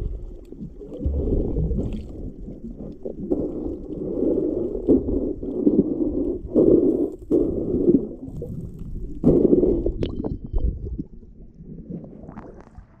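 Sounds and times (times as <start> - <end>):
muffled water sloshing and gurgling: 0.0 - 13.0.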